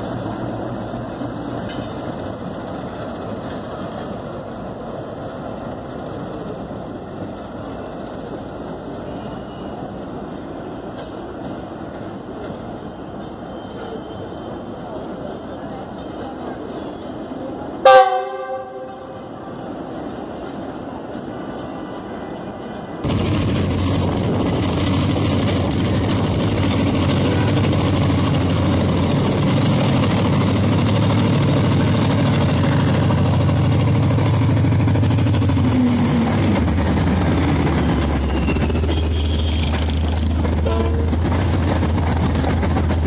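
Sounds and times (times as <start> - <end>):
diesel locomotive engine drone: 0.0 - 43.0
train rattling: 0.0 - 43.0.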